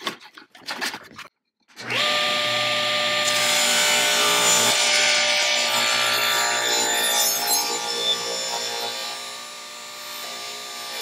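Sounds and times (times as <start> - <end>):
pneumatic circular saw cutting wood: 1.8 - 11.0.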